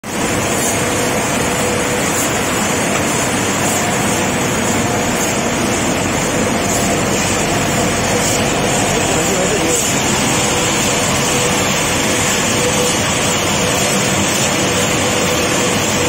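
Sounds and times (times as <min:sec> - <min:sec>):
polishing machine whirring: 0:00.4 - 0:16.0.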